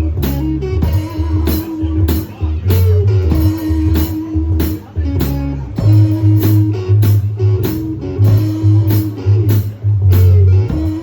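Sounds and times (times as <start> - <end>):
blues guitar: 0.0 - 11.0
low bass notes: 0.0 - 11.0.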